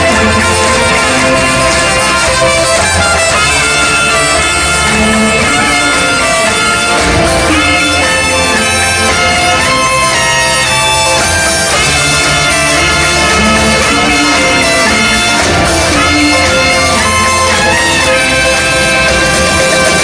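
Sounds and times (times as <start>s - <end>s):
bass and drum backing: 0.0s - 20.0s
sustained melody line: 0.0s - 20.0s.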